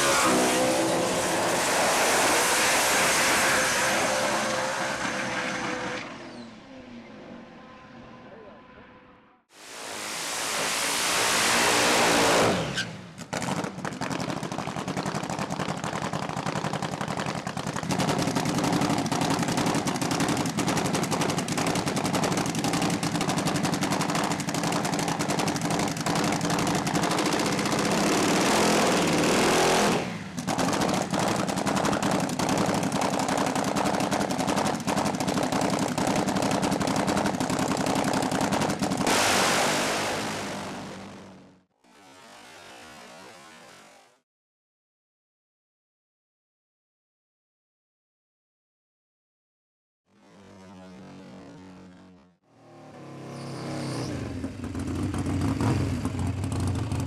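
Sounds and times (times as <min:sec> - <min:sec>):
motorcycle engine revving: 0:00.0 - 0:09.2, 0:09.9 - 0:44.0, 0:50.1 - 0:57.0.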